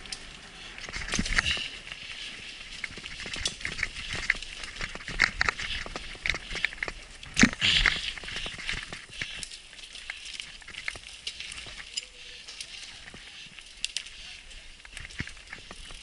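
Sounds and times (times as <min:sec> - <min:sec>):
bike rattling over stones: 0:00.0 - 0:16.0.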